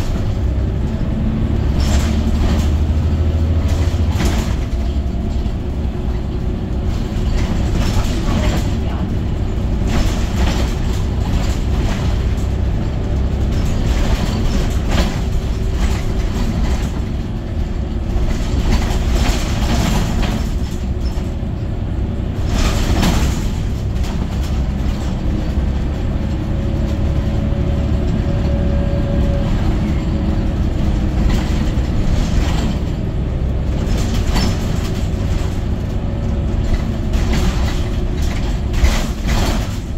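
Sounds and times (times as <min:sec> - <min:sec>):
bodywork rattles and knocks: 0:00.0 - 0:39.9
bus engine and road rumble: 0:00.0 - 0:39.9.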